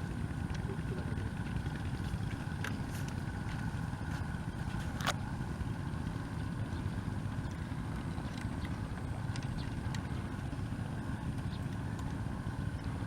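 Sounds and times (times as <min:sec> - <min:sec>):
motor running at low speed: 0:00.0 - 0:13.0.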